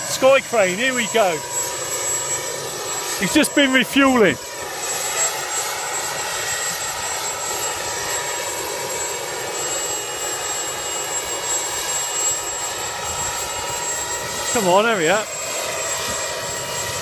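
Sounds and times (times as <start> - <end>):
helicopter engine whine: 0.0 - 17.0
helicopter rotor noise: 0.0 - 17.0.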